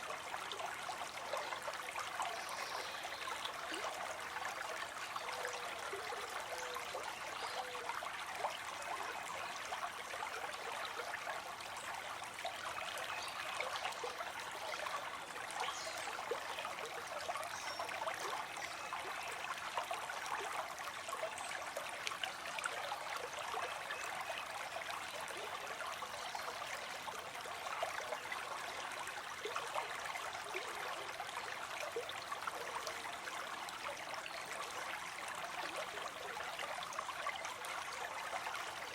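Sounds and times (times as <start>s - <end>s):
small stream flowing: 0.0s - 38.9s.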